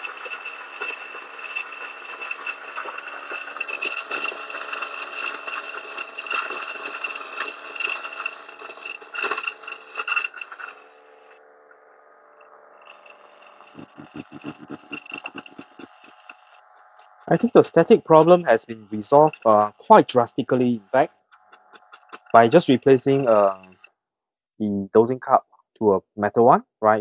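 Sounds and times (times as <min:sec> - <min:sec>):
beans crackling in grinder: 0:00.0 - 0:23.9
coffee grinder motor whine: 0:00.0 - 0:24.0.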